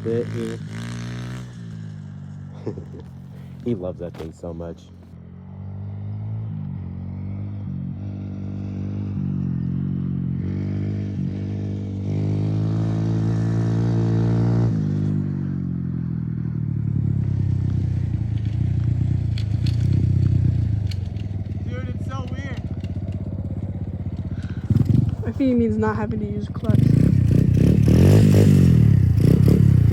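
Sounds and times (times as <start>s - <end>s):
dirt bike engine revving: 0.0s - 15.4s, 16.8s - 29.9s.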